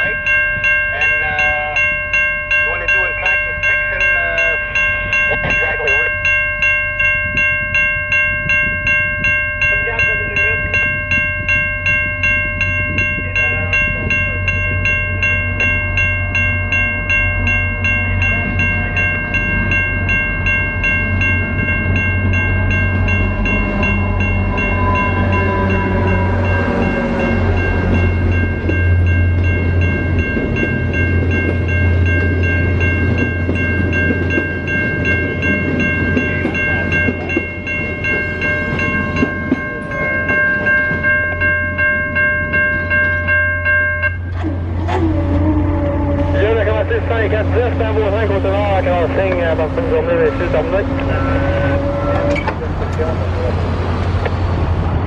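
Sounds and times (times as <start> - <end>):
level crossing warning bells: 0.0 - 55.0
locomotive engine rumble: 0.0 - 55.0.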